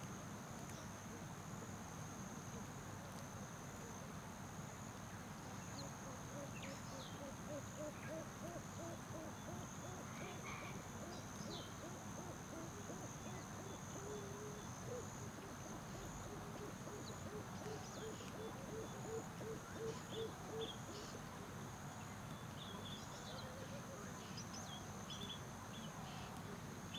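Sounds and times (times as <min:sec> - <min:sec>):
high insect drone: 0:00.2 - 0:22.2.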